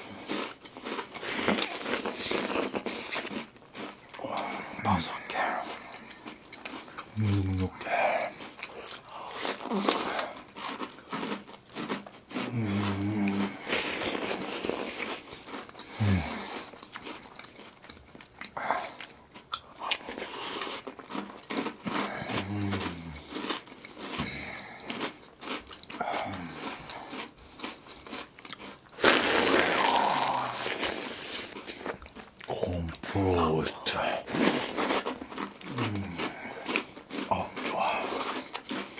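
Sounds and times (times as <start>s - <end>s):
crunching cereal: 0.0s - 38.9s
wet chewing: 0.0s - 38.9s.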